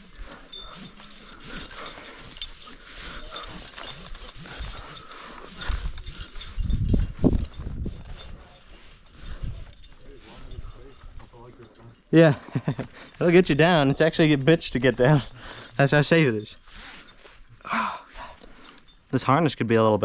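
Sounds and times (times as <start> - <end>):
metal climbing gear clinking: 0.0 - 19.8.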